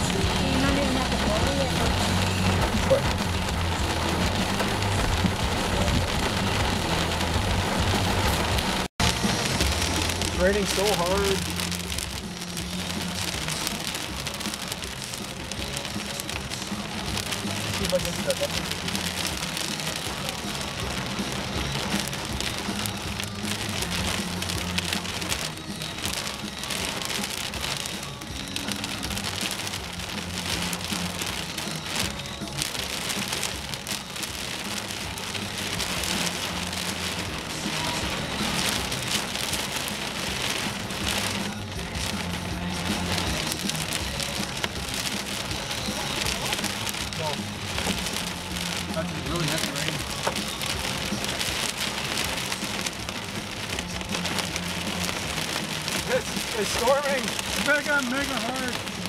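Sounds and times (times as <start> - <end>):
heavy rain pelting a vehicle: 0.0 - 59.0.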